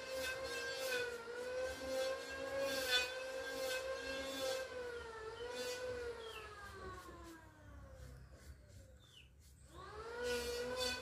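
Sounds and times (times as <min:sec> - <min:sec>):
small motor whirring: 0:00.0 - 0:11.0.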